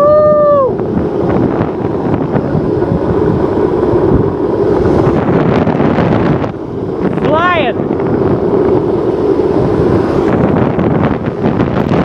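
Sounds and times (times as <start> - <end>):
skateboard wheels rolling on asphalt: 0.0 - 12.0
wind rushing over microphone: 0.0 - 12.0.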